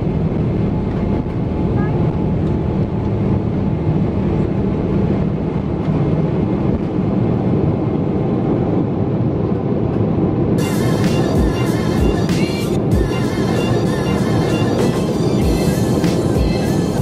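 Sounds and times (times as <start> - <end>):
jet engines at takeoff thrust: 0.0 - 17.0
low rumble of takeoff roll: 0.0 - 17.0.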